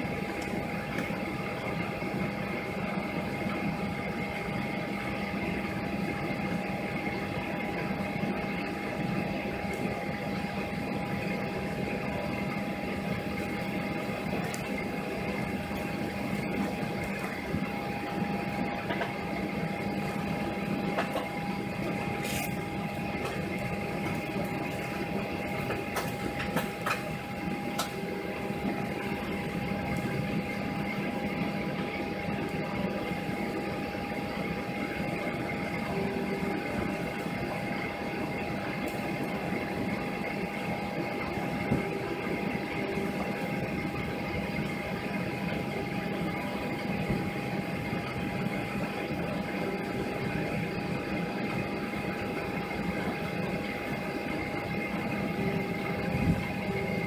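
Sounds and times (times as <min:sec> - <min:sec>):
cabin ventilation hum: 0:00.0 - 0:57.0
constant whine: 0:00.0 - 0:57.0.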